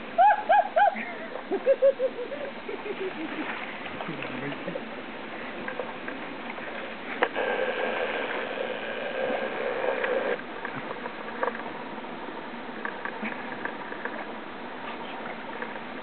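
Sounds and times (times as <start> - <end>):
steady noise with held tone: 0.0 - 16.0.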